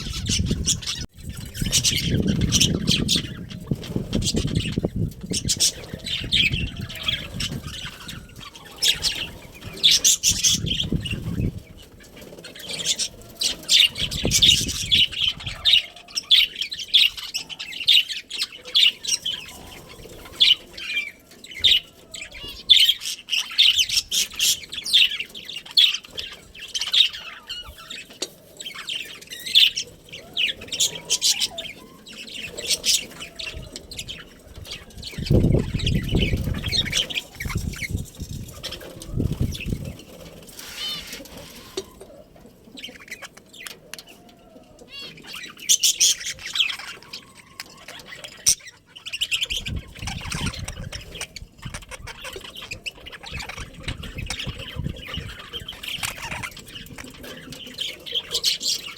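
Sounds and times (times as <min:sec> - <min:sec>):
budgerigars chirping: 0:00.0 - 0:39.9, 0:40.6 - 0:42.1, 0:42.7 - 0:58.9.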